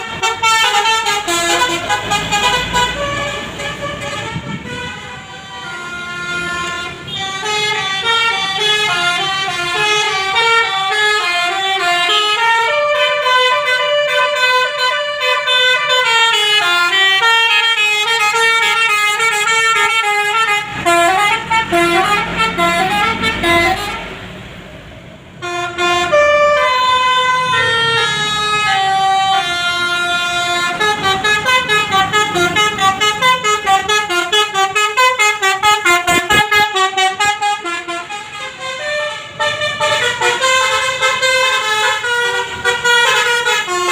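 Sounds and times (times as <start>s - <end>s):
bus musical horn: 0.0s - 24.2s, 25.4s - 43.9s.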